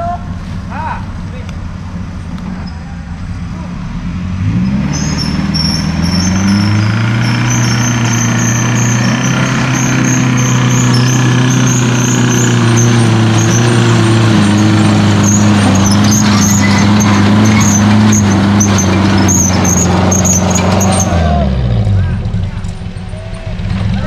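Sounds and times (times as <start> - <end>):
buggy engine revving high: 0.0 - 24.0.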